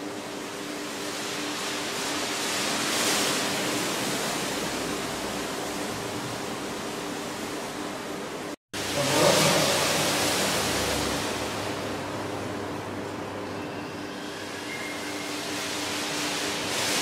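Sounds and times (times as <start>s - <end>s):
steady rushing hiss: 0.0s - 13.4s, 14.0s - 17.0s.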